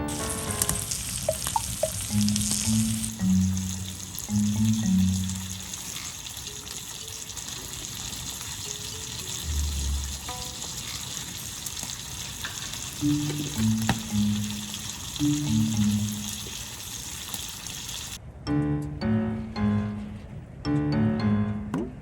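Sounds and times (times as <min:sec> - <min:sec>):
background music: 0:00.0 - 0:11.5, 0:12.9 - 0:16.5, 0:18.2 - 0:22.0
food sizzling in a frying pan: 0:00.0 - 0:18.2.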